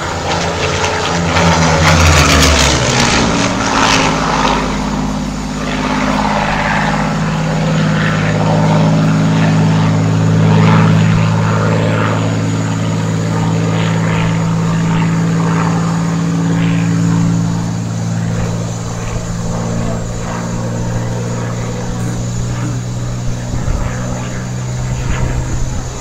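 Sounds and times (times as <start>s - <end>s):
propeller plane engine hum: 0.0s - 26.0s.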